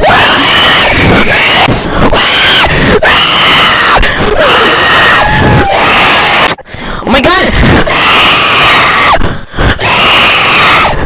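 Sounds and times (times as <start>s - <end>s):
people screaming: 0.0s - 6.6s, 7.7s - 11.0s.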